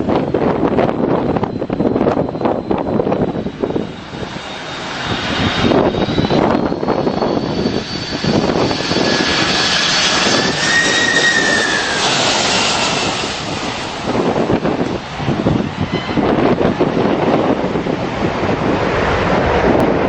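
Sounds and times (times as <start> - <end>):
jet engines whining: 0.0 - 20.0
wind on microphone: 0.0 - 20.0.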